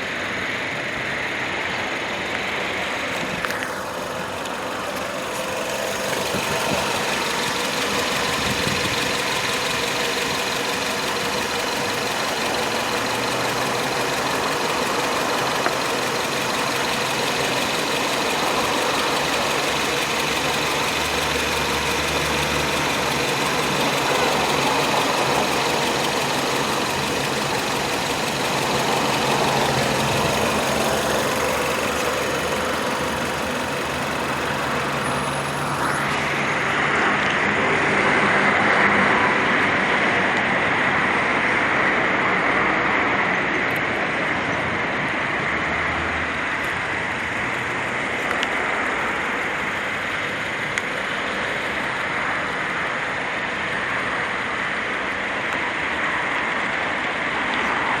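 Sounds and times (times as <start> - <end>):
car engine humming: 0.0 - 58.0.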